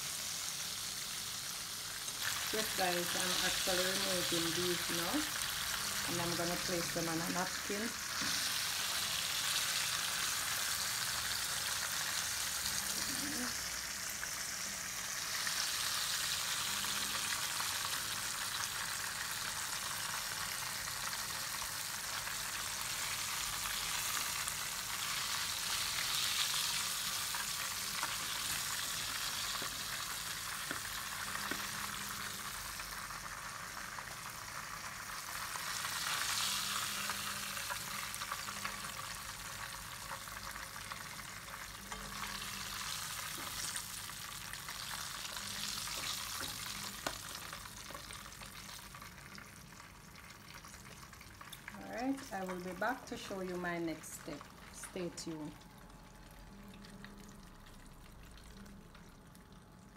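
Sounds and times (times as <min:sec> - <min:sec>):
chicken sizzling in frying pan: 0:00.0 - 0:56.4.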